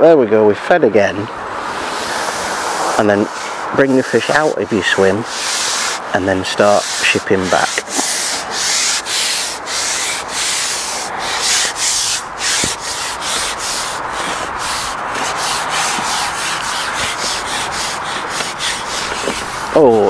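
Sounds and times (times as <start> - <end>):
fishing pole rasping slide: 1.6 - 20.0.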